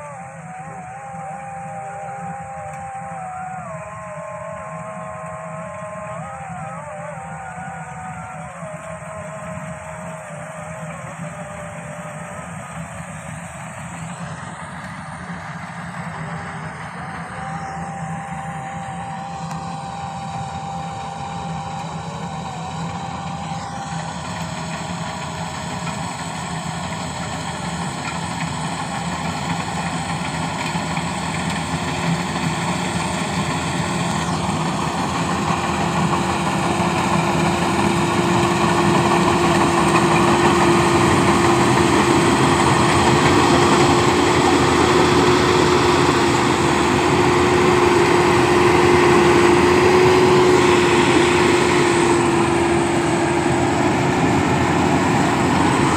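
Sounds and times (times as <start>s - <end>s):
combine harvester running: 0.0s - 55.9s
steady whine: 0.0s - 55.9s.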